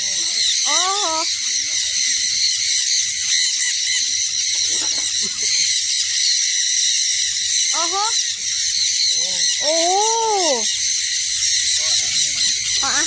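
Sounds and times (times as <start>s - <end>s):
flock of birds chattering: 0.0s - 13.0s.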